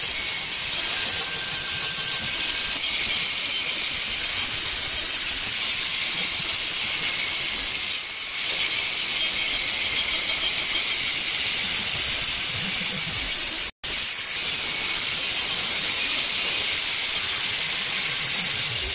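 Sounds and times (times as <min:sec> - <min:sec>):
angle grinder polishing stone: 0:00.0 - 0:18.9.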